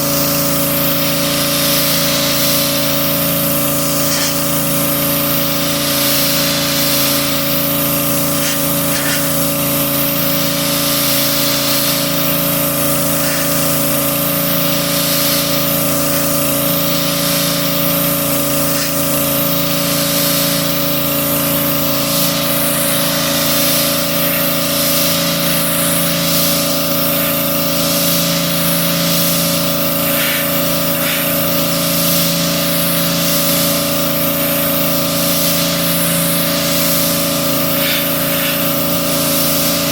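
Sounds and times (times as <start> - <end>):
pressure washer engine running: 0.0 - 39.9
water jet hissing: 0.0 - 39.9.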